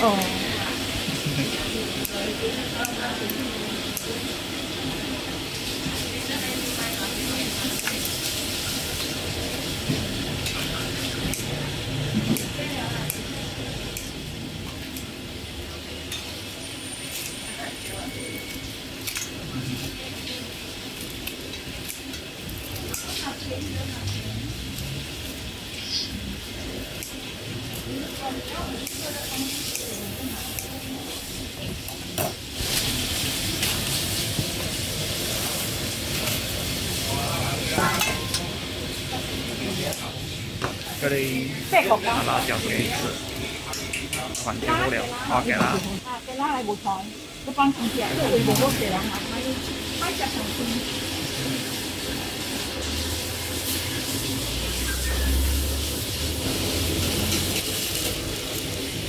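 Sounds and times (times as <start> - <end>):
sizzling hiss: 0.0 - 59.0.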